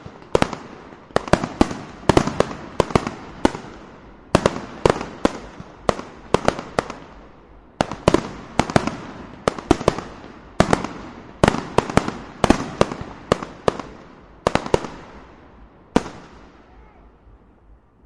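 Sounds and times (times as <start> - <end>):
fireworks bangs echoing: 0.0 - 16.8.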